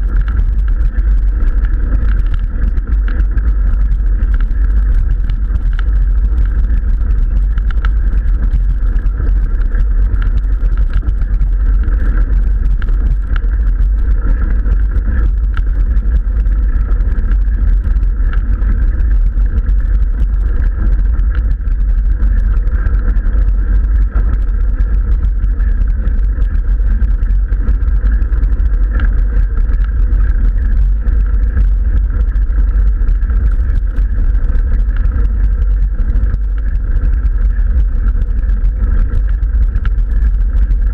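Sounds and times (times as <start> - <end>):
wind on camera microphone: 0.0 - 40.9.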